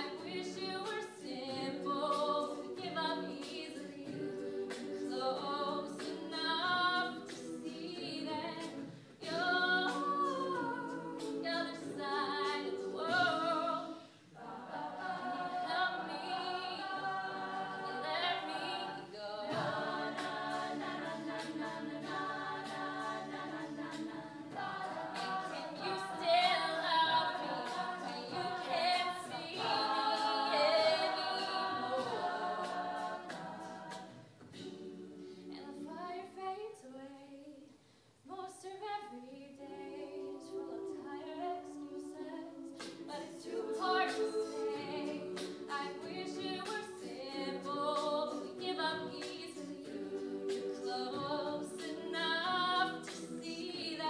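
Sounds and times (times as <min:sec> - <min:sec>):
lead woman singing: 0:00.0 - 0:13.9, 0:15.0 - 0:33.4, 0:38.3 - 0:54.0
backing voices singing: 0:00.0 - 0:37.6, 0:39.0 - 0:54.0.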